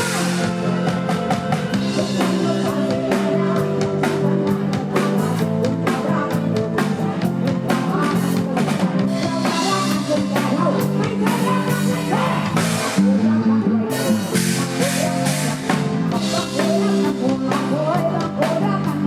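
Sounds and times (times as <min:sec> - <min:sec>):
drum-kit beat: 0:00.0 - 0:13.3, 0:13.9 - 0:19.0
live band music: 0:00.0 - 0:19.0.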